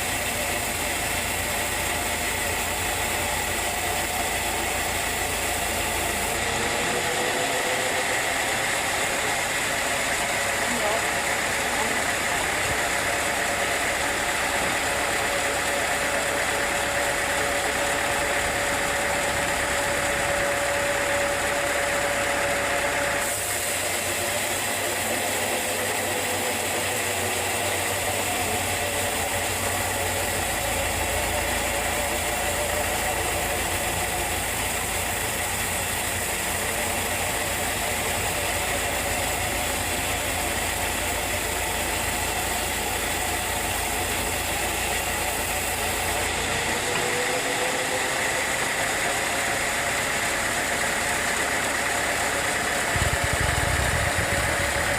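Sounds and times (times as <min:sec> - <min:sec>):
sawmill machinery rattling drone: 0:00.0 - 0:54.9.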